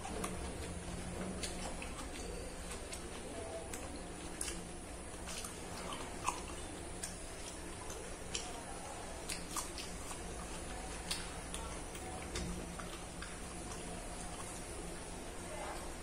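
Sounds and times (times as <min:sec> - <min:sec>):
open-mouth chewing: 0:00.0 - 0:16.0.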